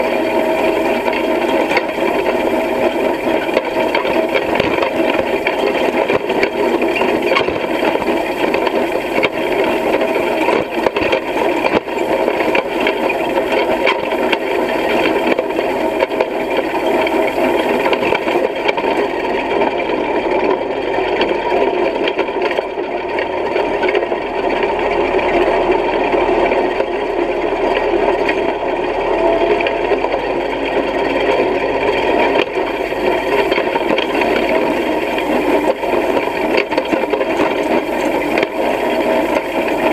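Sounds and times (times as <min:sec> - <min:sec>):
hay rake mechanical rattle: 0:00.0 - 0:39.9.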